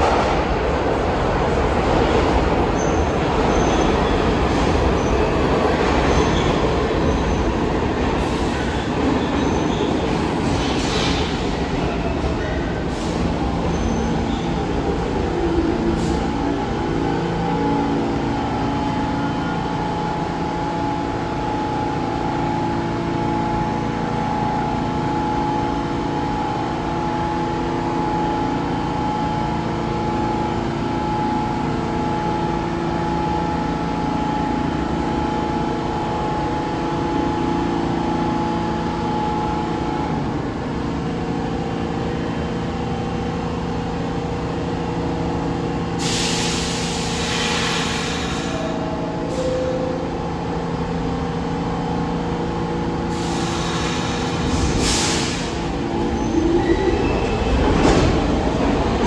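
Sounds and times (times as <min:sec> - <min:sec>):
subway train rumbling: 0:00.0 - 0:59.0
train standing hum: 0:00.0 - 0:59.0.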